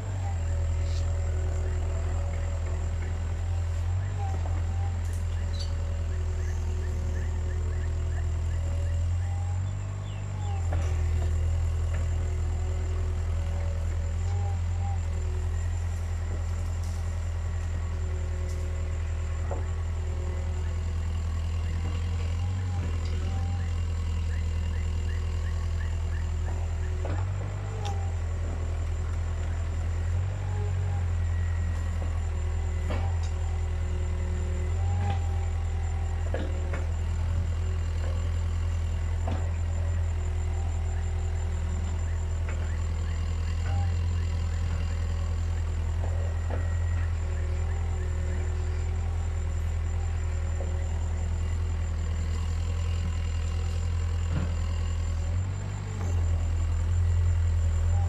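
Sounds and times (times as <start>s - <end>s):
diesel engine running: 0.0s - 58.0s
knocks and clunks of digging gear: 0.5s - 58.0s.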